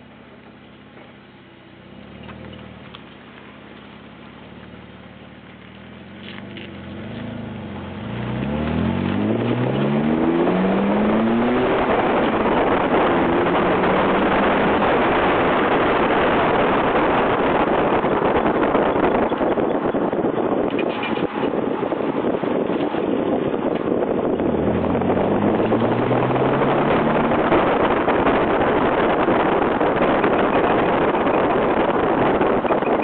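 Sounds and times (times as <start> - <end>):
road and wind noise: 0.0 - 33.0
car engine revving: 1.7 - 33.0.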